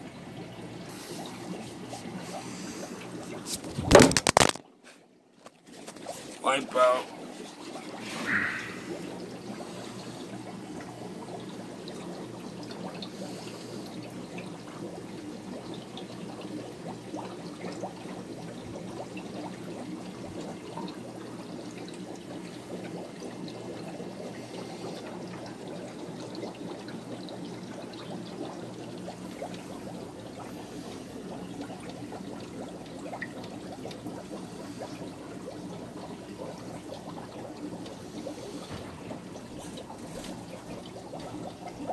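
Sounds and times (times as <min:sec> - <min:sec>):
aquarium filter trickling: 0:00.0 - 0:41.9.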